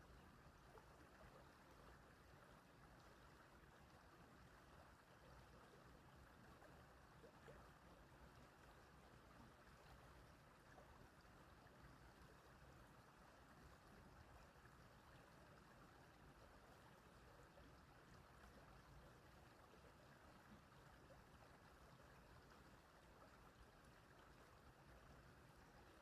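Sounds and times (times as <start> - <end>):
small stream flowing: 0.0 - 26.0.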